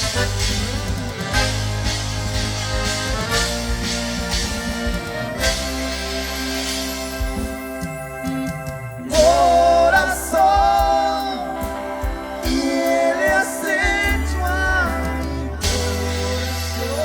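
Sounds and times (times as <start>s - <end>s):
live band playing: 0.0s - 17.0s
steady bass: 0.0s - 17.0s
wavering melody line: 0.0s - 17.0s.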